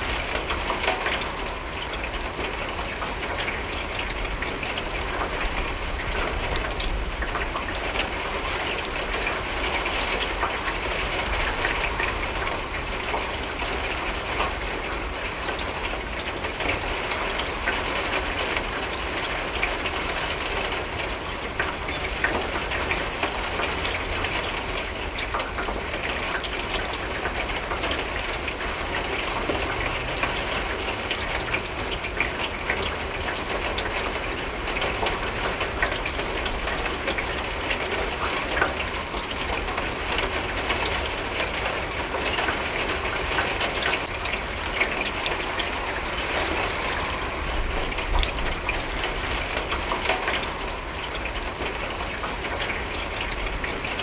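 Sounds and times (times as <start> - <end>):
rain pattering on window glass: 0.0 - 54.0.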